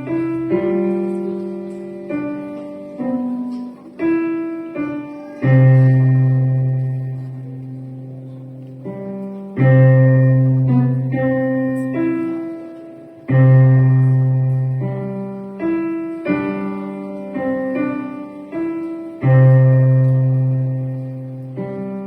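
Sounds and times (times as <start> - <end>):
slow piano piece: 0.0 - 22.0.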